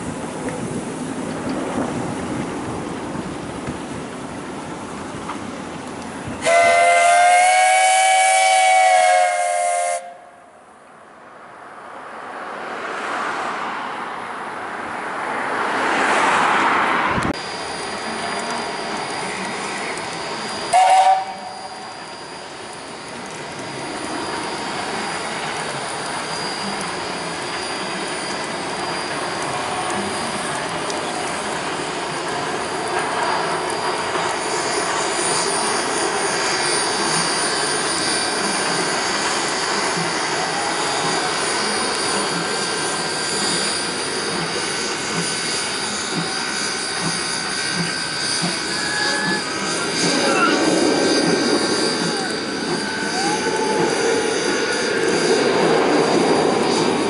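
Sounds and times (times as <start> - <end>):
steam train rushing: 0.0 - 10.4, 11.4 - 57.0.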